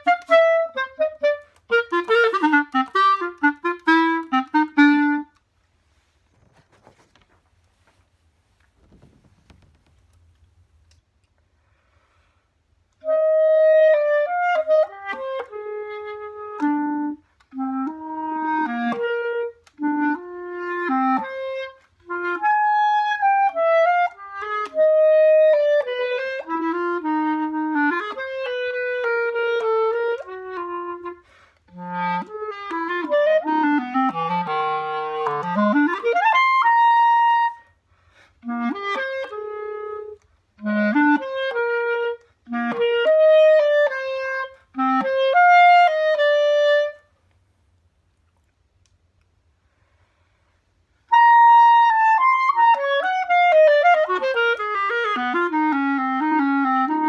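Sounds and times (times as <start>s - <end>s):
solo clarinet playing: 0.0s - 6.2s, 12.7s - 47.2s, 51.0s - 57.0s.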